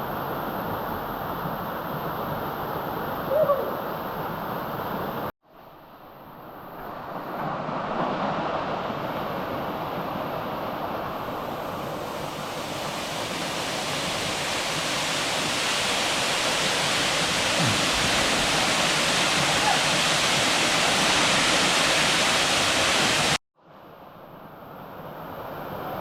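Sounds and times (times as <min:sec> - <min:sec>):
rushing stream and waterfall: 0:00.0 - 0:23.8.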